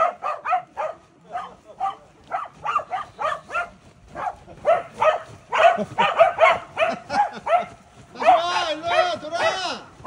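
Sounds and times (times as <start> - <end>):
dogs barking: 0.0 - 10.0.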